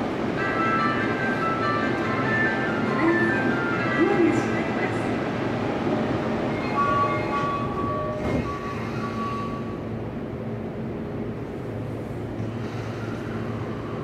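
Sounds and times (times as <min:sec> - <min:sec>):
wheel and rail rumble: 0:00.0 - 0:14.0.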